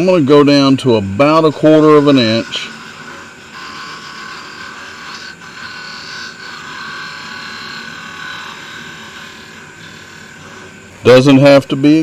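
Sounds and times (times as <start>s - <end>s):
lathe motor whine: 0.0s - 12.0s
hiss of tool cutting wood: 0.6s - 12.0s.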